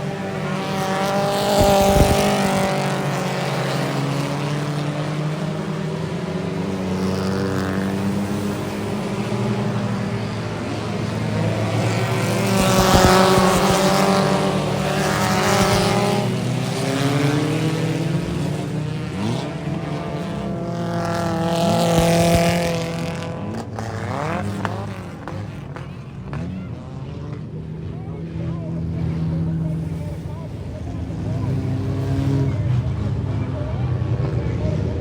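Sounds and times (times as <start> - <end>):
race cars passing: 0.0 - 35.0.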